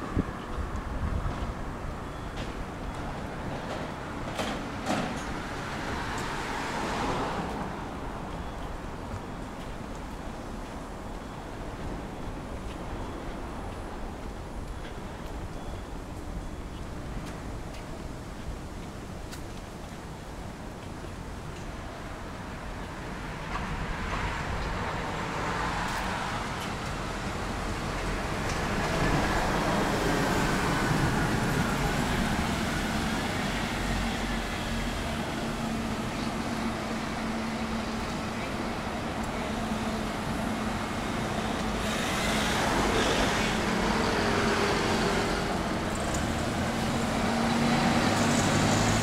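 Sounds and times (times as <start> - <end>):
cars and buses passing: 0.0 - 49.0.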